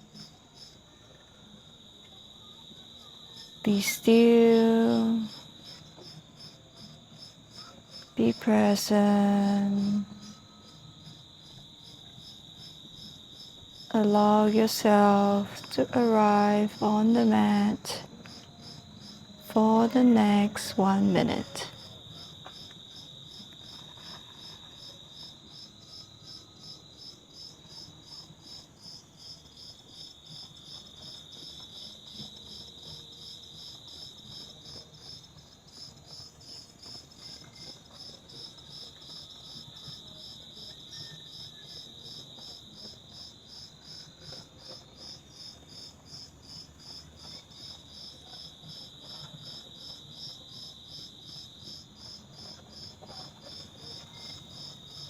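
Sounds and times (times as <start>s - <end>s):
insects pulsed chirping: 0.0s - 55.0s.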